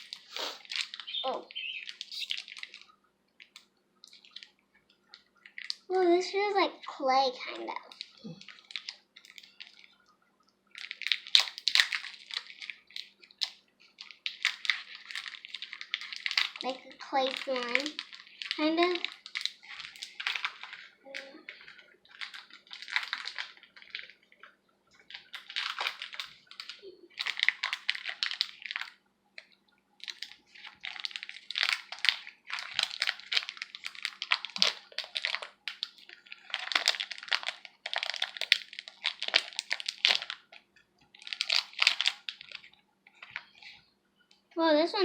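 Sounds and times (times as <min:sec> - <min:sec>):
slime squeezed squishy crackling: 0:00.0 - 0:06.0, 0:07.3 - 0:10.0, 0:10.7 - 0:24.4, 0:25.0 - 0:43.7.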